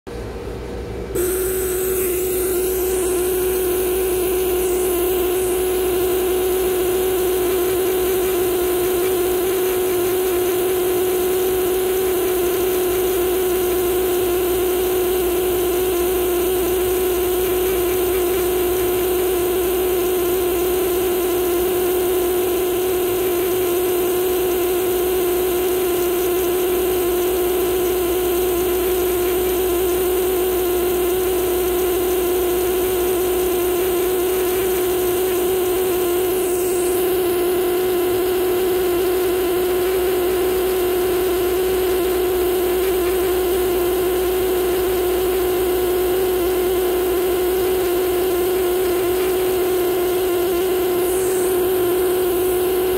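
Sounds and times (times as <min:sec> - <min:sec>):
air scribe buzzing: 0:01.1 - 0:52.9.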